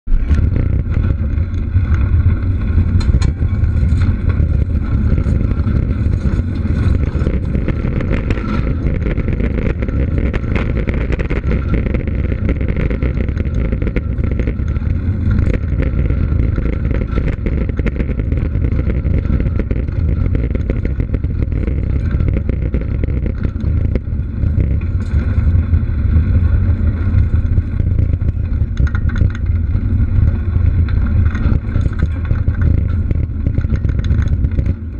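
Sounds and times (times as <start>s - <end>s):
bike tyres rumbling on gravel: 0.0s - 34.9s
small clicks and rattles: 0.1s - 34.9s
wind buffeting microphone: 0.1s - 34.9s.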